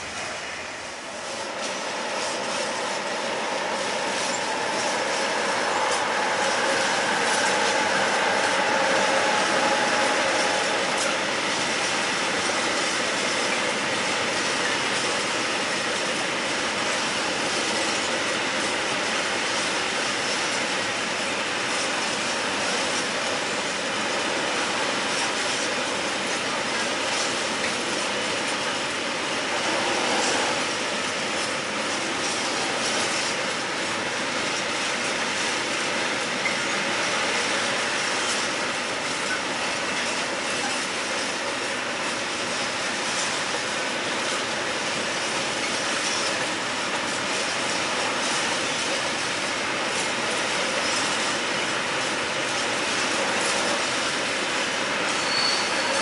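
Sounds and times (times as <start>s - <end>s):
freight train rumbling past: 0.0s - 56.0s
train whine: 0.0s - 56.0s.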